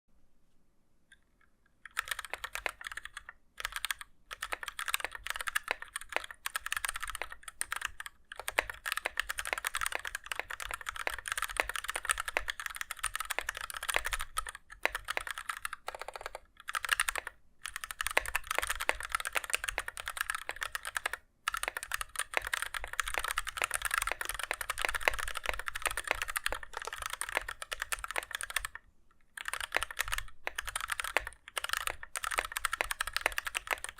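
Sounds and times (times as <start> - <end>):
mechanical keyboard typing: 1.9 - 33.9.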